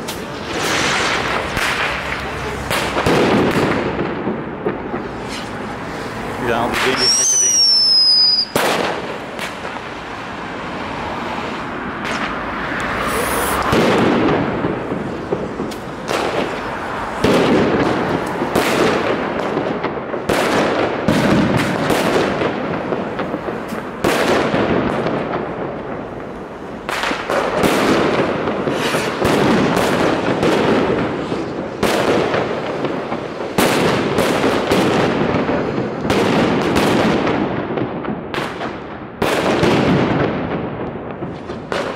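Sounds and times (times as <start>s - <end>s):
fireworks bangs: 0.0s - 41.9s
fireworks crackling and rumbling: 0.0s - 41.9s.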